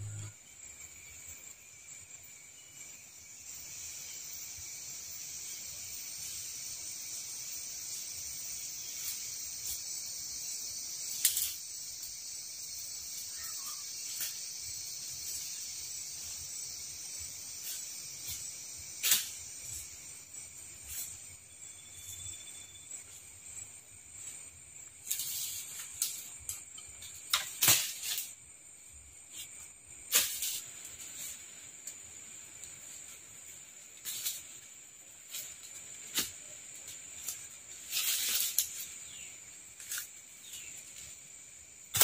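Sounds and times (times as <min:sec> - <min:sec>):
insects chorus: 0:00.0 - 0:42.0.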